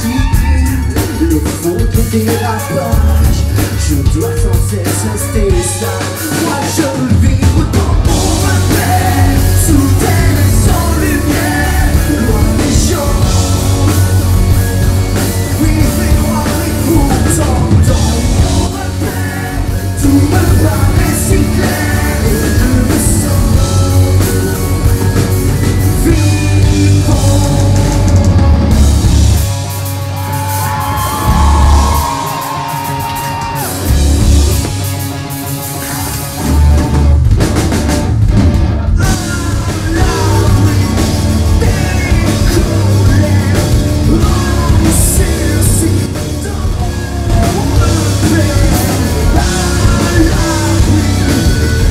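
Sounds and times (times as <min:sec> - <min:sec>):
man singing: 0:00.0 - 0:29.2, 0:30.4 - 0:33.9, 0:38.8 - 0:51.9
bass guitar: 0:00.0 - 0:51.9
drums: 0:00.0 - 0:51.9
electric guitar: 0:00.0 - 0:51.9.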